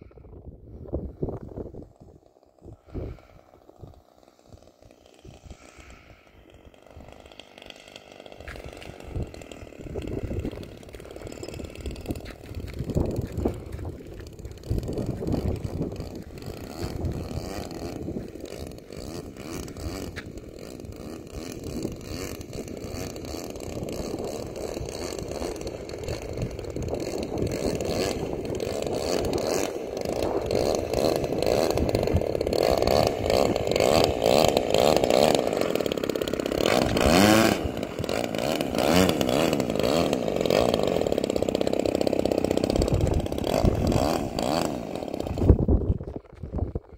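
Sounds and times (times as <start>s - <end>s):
model airplane motor buzzing: 0.0s - 46.9s.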